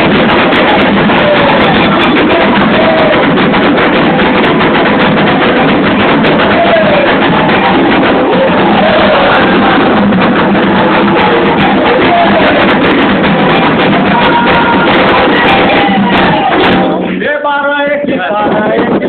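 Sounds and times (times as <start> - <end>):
group of voices chanting: 0.0 - 17.1
hand drum strokes: 0.0 - 17.3.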